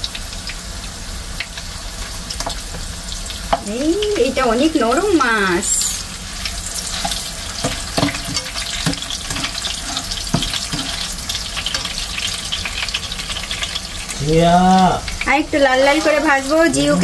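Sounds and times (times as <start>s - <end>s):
fish sizzling in butter: 0.0s - 17.0s.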